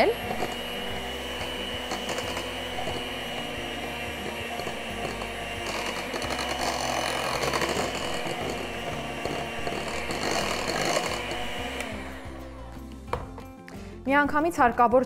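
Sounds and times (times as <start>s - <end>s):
electric hand mixer whirring: 0.0s - 13.7s.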